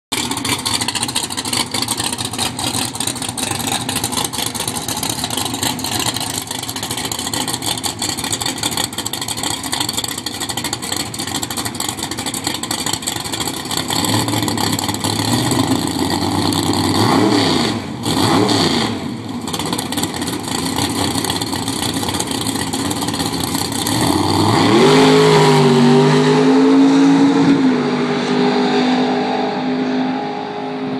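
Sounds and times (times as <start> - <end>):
drag car engine revving: 0.1 - 30.9.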